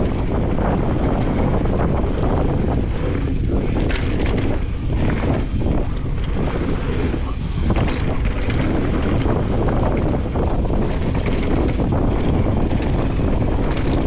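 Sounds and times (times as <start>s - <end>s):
bike clicks and rattles: 0.0s - 14.0s
bike tyres on dirt: 0.0s - 14.0s
wind noise on microphone: 0.0s - 14.0s.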